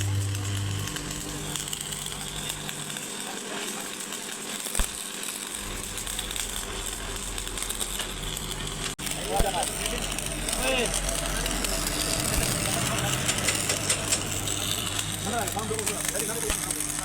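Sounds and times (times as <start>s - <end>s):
small clicks and crackles: 0.0s - 17.0s.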